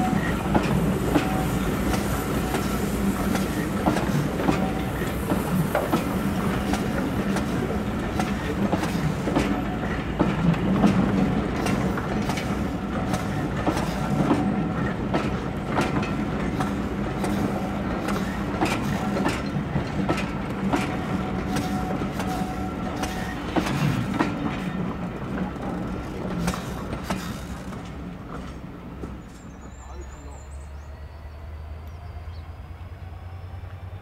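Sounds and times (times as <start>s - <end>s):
train wheels clicking over rail joints: 0.0s - 30.0s.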